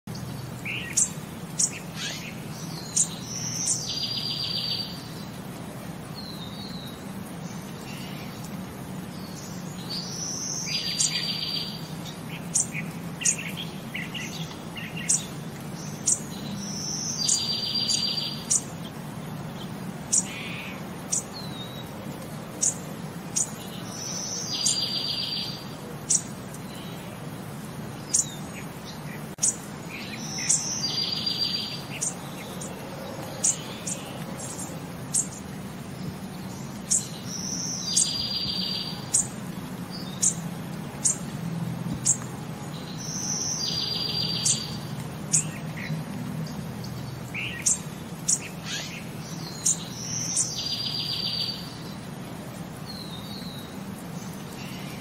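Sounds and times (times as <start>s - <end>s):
bird chirps and buzzy trill: 0.1s - 5.4s, 6.1s - 21.9s, 22.6s - 27.2s, 28.0s - 40.4s, 42.0s - 52.1s.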